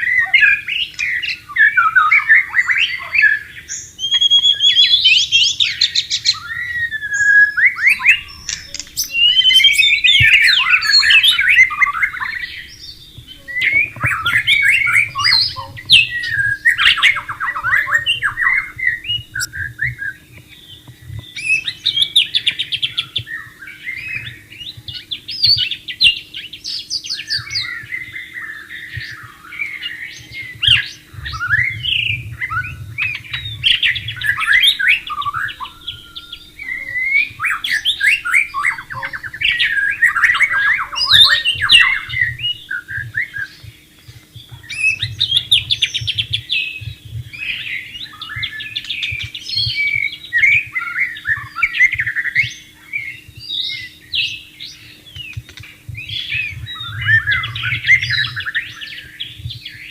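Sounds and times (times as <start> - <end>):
bird singing whistles and trills: 0.0 - 59.9
faint steady hum: 0.0 - 59.9.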